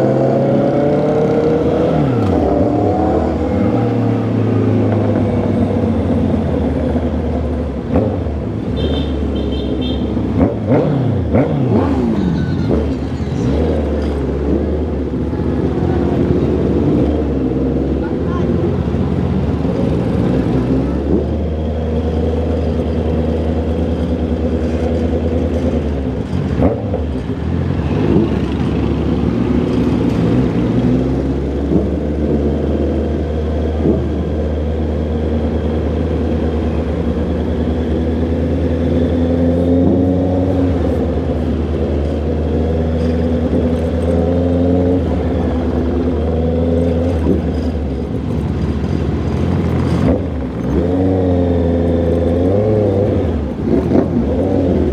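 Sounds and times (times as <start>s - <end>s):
motorcycle engine and exhaust: 0.0s - 54.9s.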